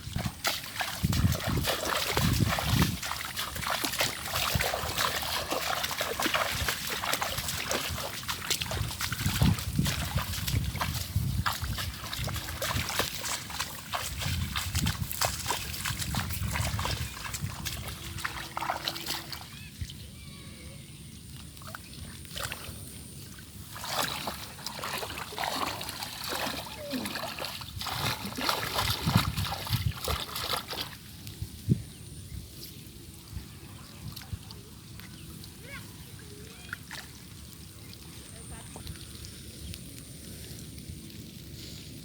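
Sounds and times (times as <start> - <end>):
water splashing and sloshing: 0.0 - 20.2, 21.2 - 42.0.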